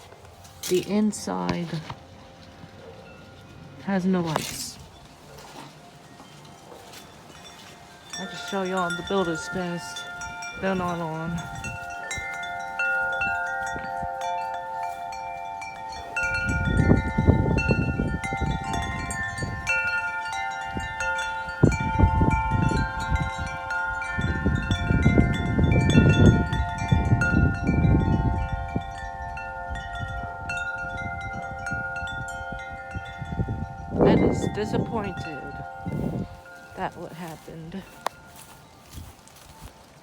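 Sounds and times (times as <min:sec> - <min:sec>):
wind chimes ringing: 0:00.0 - 0:40.0
wind rumbling on microphone: 0:00.0 - 0:40.0.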